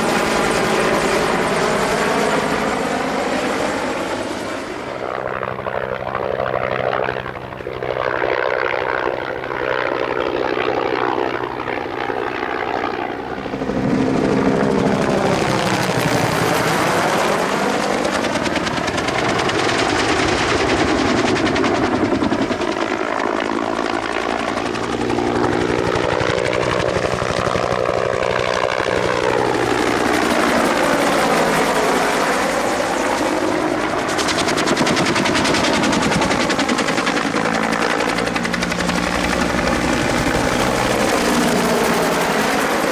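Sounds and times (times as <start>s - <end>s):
helicopter rotor and turbine: 0.0s - 42.9s.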